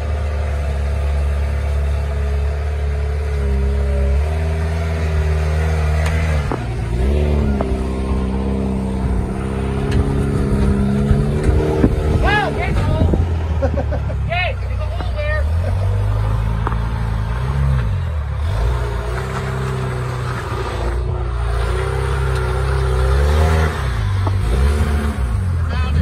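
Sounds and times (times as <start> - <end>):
buggy engine revving under load: 0.0 - 26.0.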